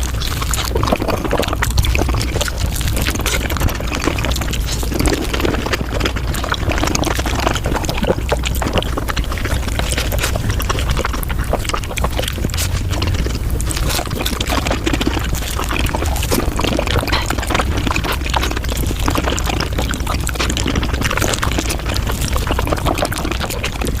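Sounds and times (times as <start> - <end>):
chewing and mouth clicks: 0.0 - 24.0
low hum: 0.0 - 24.0.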